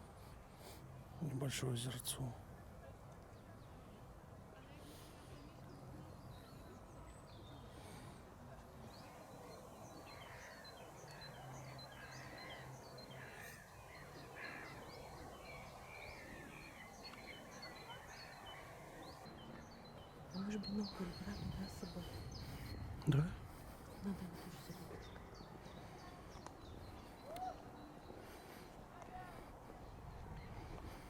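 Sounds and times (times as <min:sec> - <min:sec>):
many birds chirping: 0:04.6 - 0:31.0.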